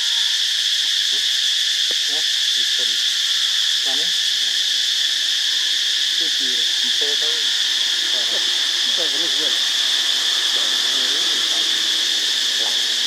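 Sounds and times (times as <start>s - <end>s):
shrill insects droning: 0.0s - 13.0s.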